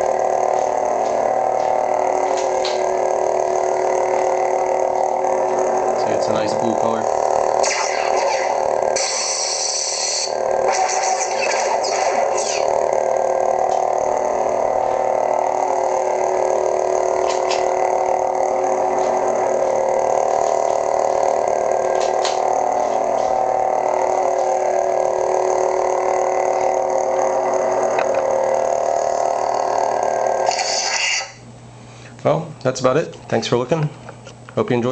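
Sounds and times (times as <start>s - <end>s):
lightsaber idle hum: 0.0s - 34.3s.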